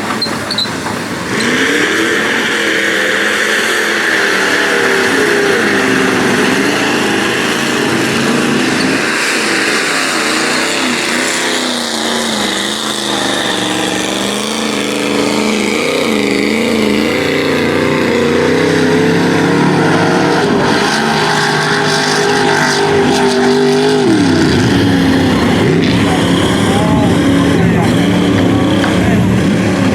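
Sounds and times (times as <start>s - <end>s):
truck engine revving hard: 0.0s - 29.9s.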